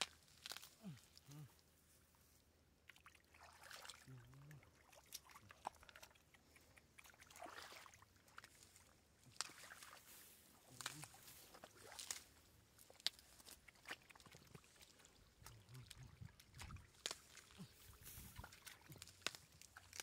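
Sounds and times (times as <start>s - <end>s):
fish splashing in shallow water: 2.8s - 20.0s.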